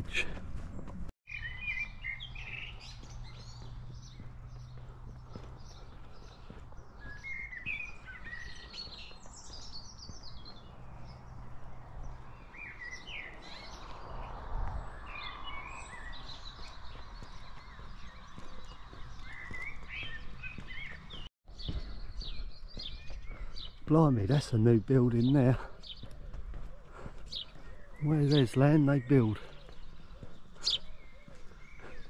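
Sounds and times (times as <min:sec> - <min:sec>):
songbirds chirping and singing: 0:00.0 - 0:32.0.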